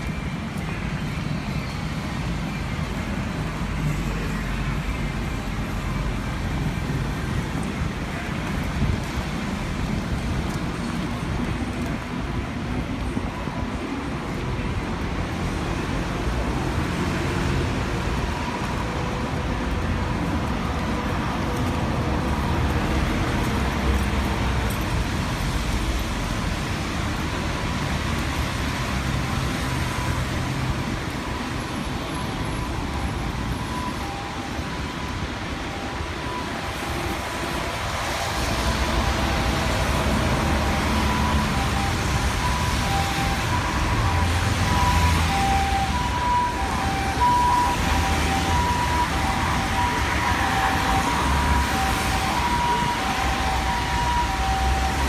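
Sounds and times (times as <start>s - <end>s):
passing vehicles rumble and hiss: 0.0s - 55.0s.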